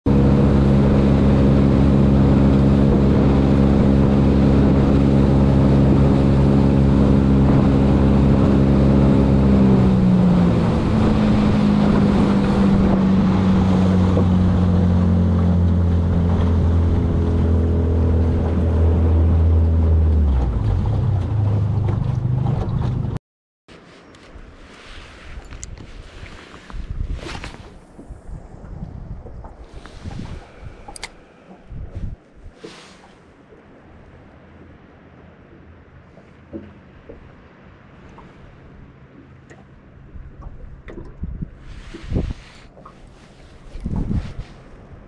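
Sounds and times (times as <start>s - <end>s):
outboard motor running: 0.1s - 23.2s, 27.3s - 45.0s
water rushing along hull: 0.1s - 23.2s, 23.8s - 45.0s
wind on microphone: 0.1s - 23.2s, 24.4s - 33.2s, 40.0s - 45.0s.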